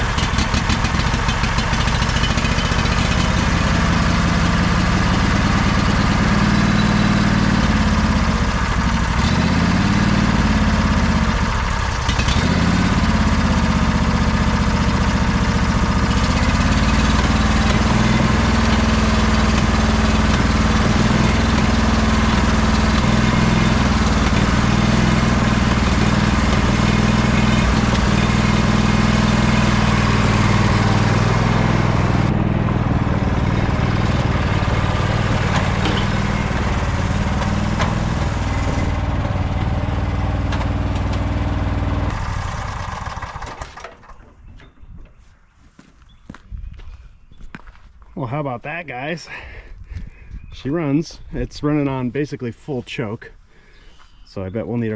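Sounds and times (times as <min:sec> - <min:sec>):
lawn tractor engine running: 0:00.0 - 0:44.4.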